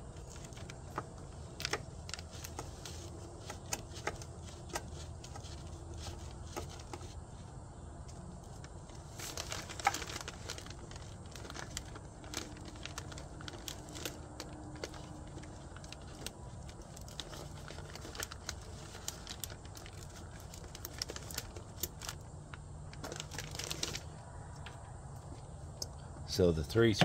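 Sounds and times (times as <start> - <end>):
paper crinkling: 0.0 - 7.5, 8.1 - 24.2.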